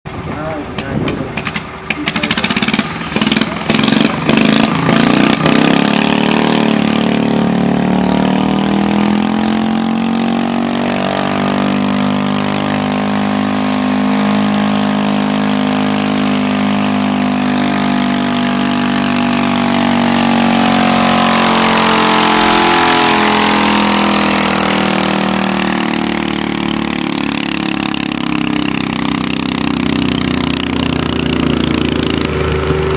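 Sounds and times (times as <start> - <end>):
tractor engine under load: 0.1 - 10.1, 10.7 - 32.9.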